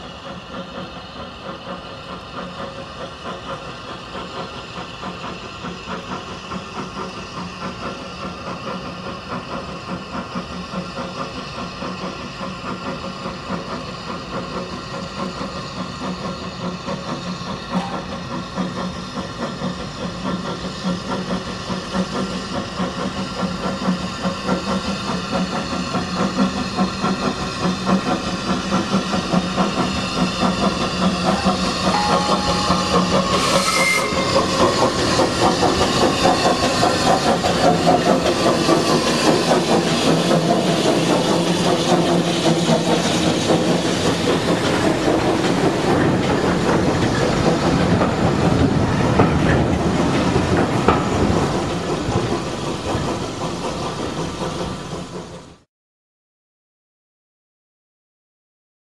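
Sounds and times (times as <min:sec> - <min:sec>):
steam hiss: 0:00.0 - 0:49.2
steam locomotive exhaust beating: 0:00.0 - 0:55.6.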